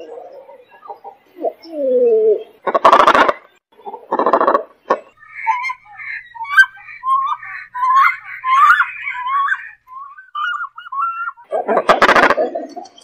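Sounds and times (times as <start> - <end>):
cormorant chattering chirps: 0.0 - 13.0.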